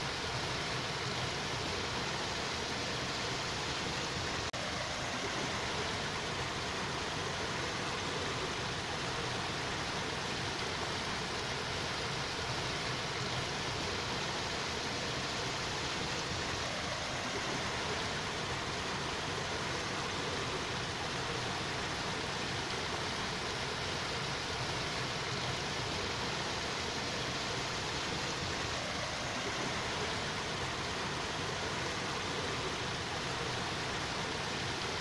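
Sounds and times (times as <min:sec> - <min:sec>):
steady hiss of noise: 0:00.0 - 0:35.0.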